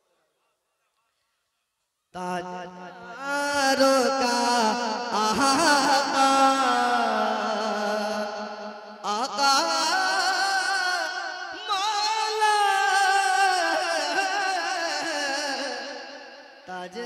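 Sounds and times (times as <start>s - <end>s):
man singing unaccompanied: 2.2s - 17.0s.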